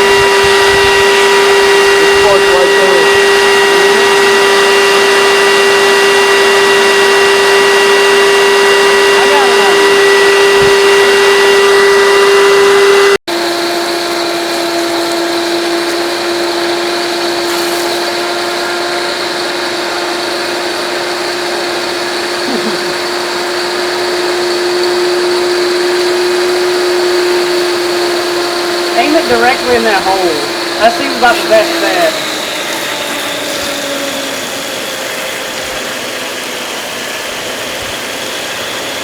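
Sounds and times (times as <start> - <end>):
vacuum cleaner motor whining: 0.0 - 39.0.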